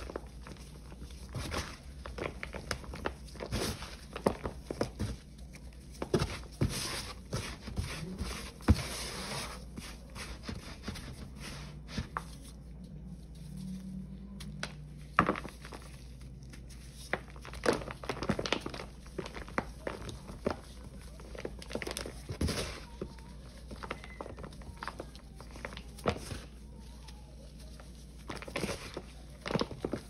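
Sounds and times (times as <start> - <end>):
paste balls crunching: 0.0 - 10.4, 13.9 - 30.0.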